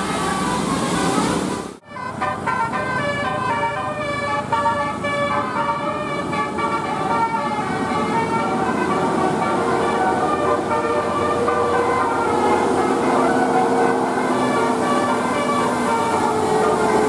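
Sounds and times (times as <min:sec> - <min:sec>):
air horns playing a tune: 0:00.0 - 0:17.0.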